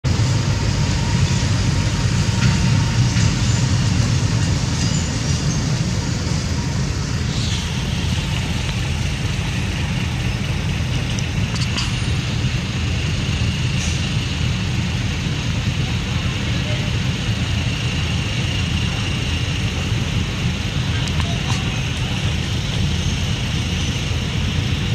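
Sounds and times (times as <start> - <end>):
low rumbling: 0.0 - 24.9.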